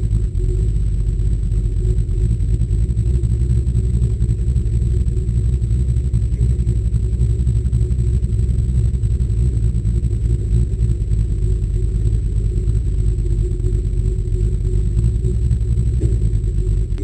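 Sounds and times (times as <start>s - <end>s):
car engine rumbling inside car: 0.0s - 17.0s.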